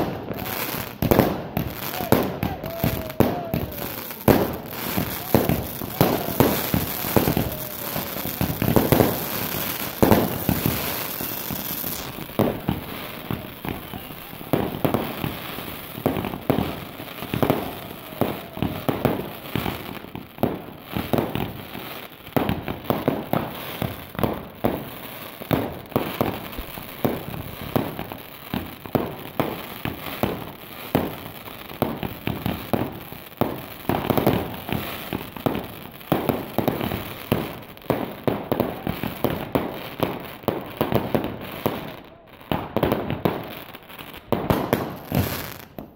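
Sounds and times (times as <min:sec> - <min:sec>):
fireworks banging: 0:00.0 - 0:43.5, 0:44.3 - 0:45.9.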